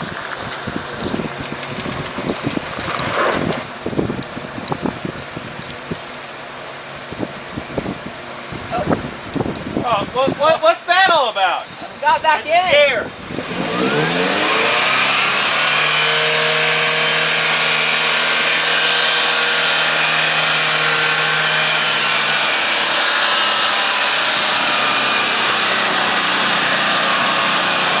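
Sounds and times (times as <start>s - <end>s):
pickup truck engine running: 0.0s - 28.0s.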